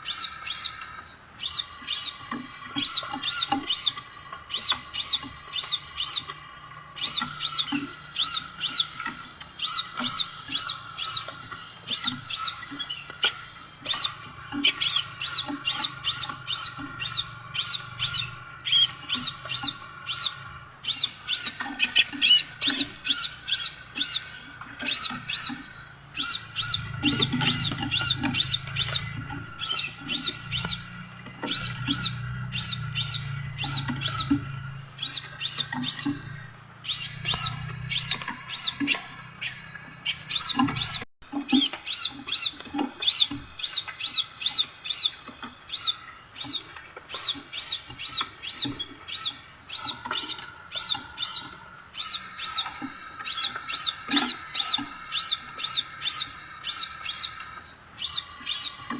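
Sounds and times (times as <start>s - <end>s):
bird chirping rapidly: 0.0s - 58.9s.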